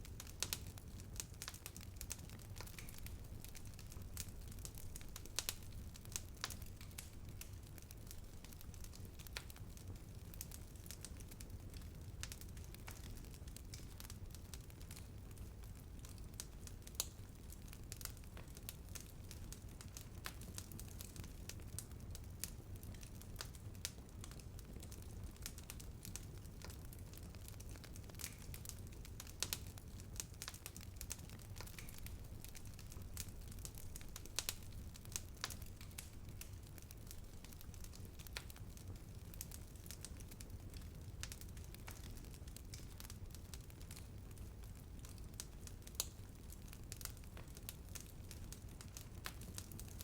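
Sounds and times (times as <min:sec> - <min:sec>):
burning wood popping: 0:00.0 - 0:50.0
fire low rumble: 0:00.0 - 0:50.0
wood fire crackling: 0:00.0 - 0:50.0.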